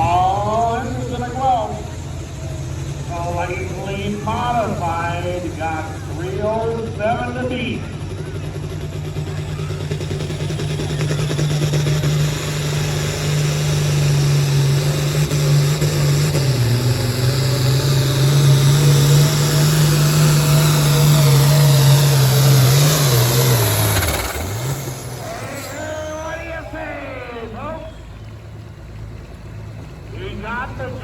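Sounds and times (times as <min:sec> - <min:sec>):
falling whine: 0:00.0 - 0:28.4
tractor engine at full throttle: 0:00.0 - 0:31.0.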